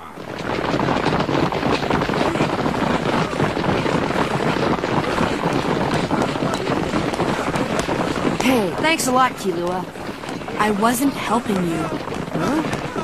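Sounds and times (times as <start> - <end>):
steady rushing noise with crackle: 0.0 - 13.0.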